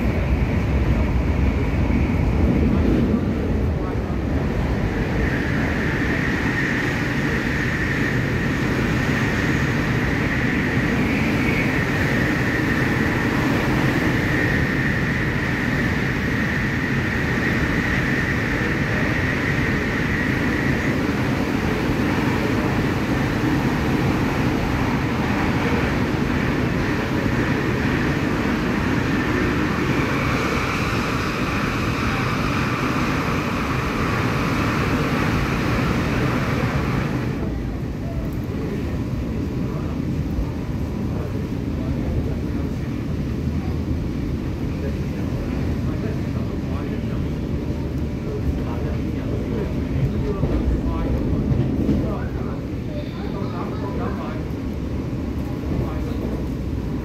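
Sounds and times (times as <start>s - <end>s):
high train whine: 0.0s - 57.0s
train wheels rumbling: 0.0s - 57.0s.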